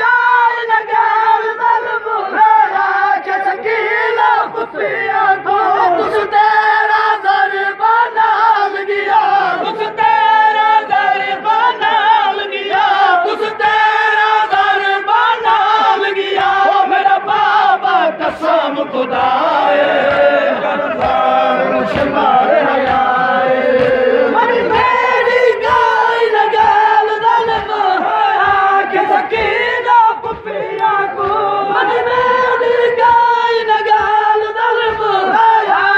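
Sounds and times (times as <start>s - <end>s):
men chanting in unison: 0.0s - 35.9s.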